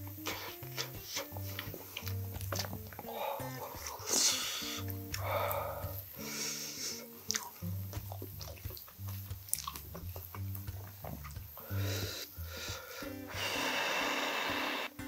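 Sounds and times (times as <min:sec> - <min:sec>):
soft background music: 0:00.0 - 0:15.0
chewing: 0:00.1 - 0:13.1.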